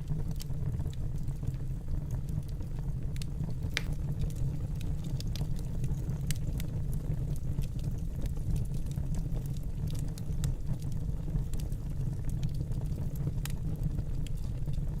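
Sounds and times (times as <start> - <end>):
fire crackles and pops: 0.0 - 15.0
fire flames rumbling: 0.0 - 15.0.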